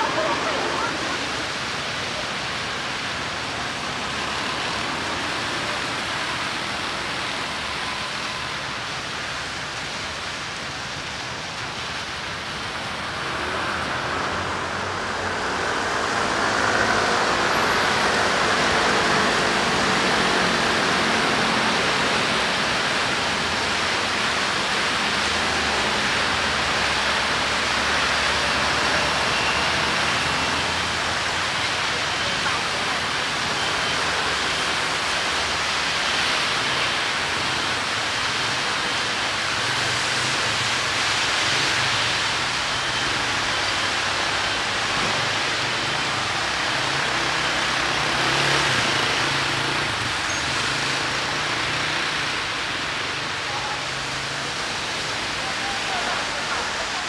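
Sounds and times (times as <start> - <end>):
steady rain: 0.0 - 57.0
street traffic noise: 0.0 - 57.0.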